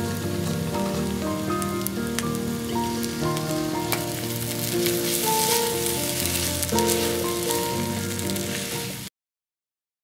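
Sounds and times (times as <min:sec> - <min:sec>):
background music: 0:00.0 - 0:09.1
rice sizzling in a wok: 0:00.0 - 0:09.1.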